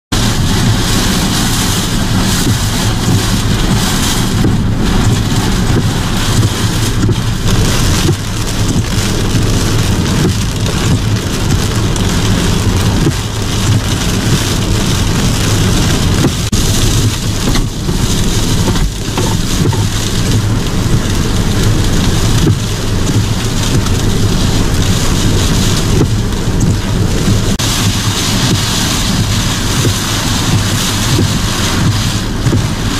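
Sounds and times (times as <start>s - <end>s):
deep rumble: 0.1s - 32.9s
heavy rain pouring in strong wind: 0.1s - 32.9s.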